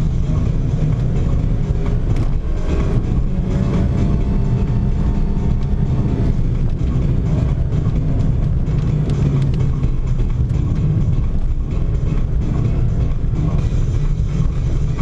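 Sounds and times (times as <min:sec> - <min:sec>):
car engine and road noise: 0:00.0 - 0:15.0
humming engine tone: 0:00.0 - 0:15.0.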